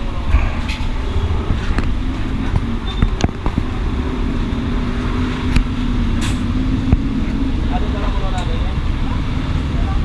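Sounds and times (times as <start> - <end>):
low engine hum: 0.0 - 10.0
road traffic rumble: 0.0 - 10.0.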